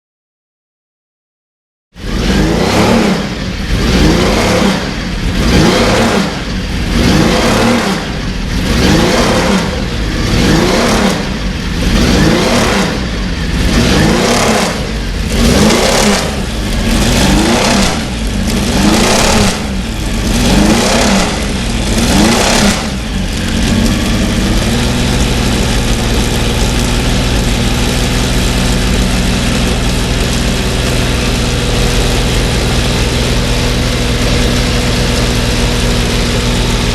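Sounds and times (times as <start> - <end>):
racing engine revving and idling: 2.0 - 36.9.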